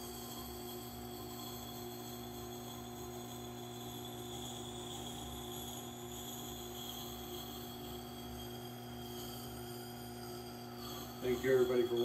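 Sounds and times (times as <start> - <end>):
hatchet grinding on grindstone: 1.6 - 12.0.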